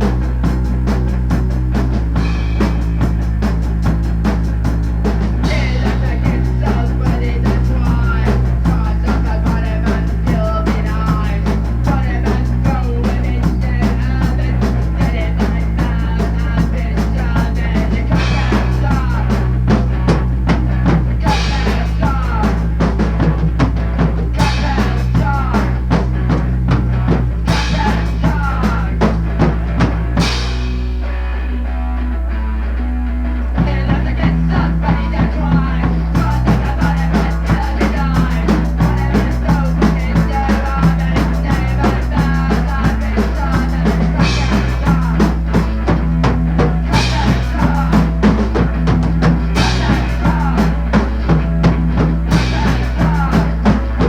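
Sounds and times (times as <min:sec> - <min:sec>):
drum kit beat: 0:00.0 - 0:31.3, 0:33.6 - 0:54.0
rock music: 0:00.0 - 0:54.0.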